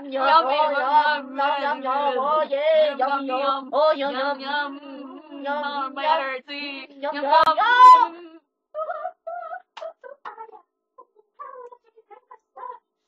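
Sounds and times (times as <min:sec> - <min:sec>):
girls chanting and singing: 0:00.0 - 0:12.8.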